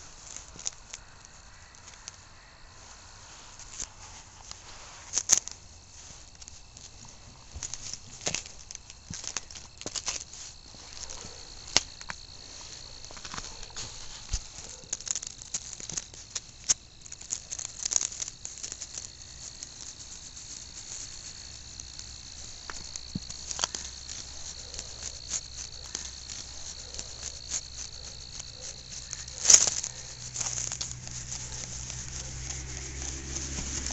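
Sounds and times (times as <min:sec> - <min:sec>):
insects trilling: 0:00.0 - 0:33.9
pig moving and rustling: 0:00.0 - 0:33.9.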